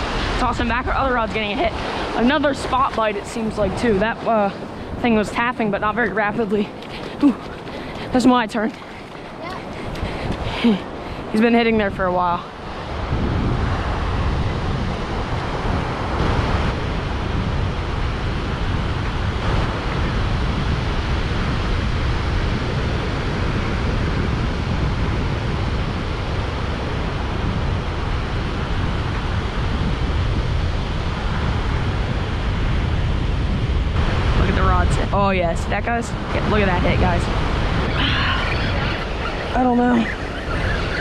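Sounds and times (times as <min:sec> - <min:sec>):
ocean surf breaking on beach: 0:00.0 - 0:41.0
wind buffeting microphone: 0:00.0 - 0:41.0.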